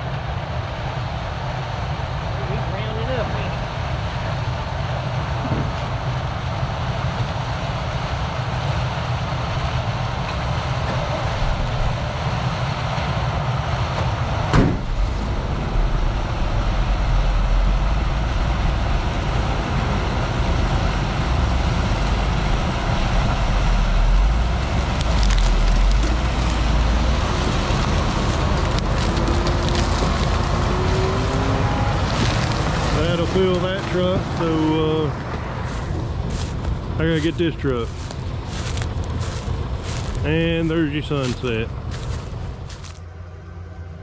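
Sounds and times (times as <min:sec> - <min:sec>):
farm vehicle engine running: 0:00.0 - 0:44.0
heavy low rumble: 0:00.0 - 0:44.0.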